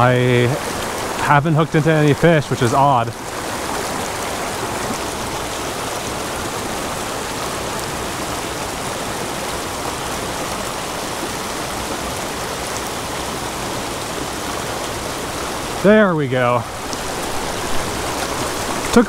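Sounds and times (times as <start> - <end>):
stream rushing over cascade: 0.0 - 19.0.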